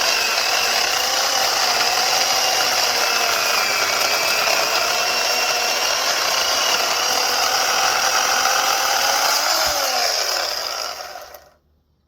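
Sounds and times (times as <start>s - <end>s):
electric chainsaw motor whining: 0.0s - 11.6s.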